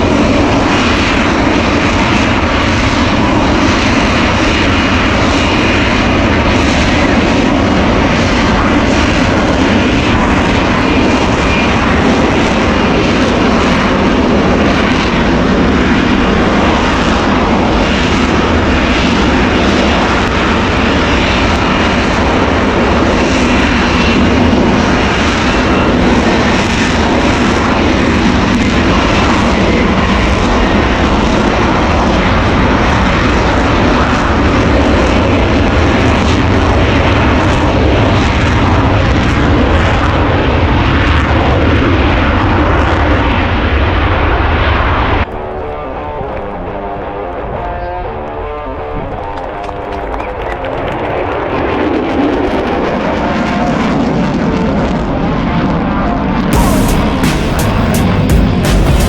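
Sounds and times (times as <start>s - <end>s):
aircraft engine running: 0.0s - 59.0s.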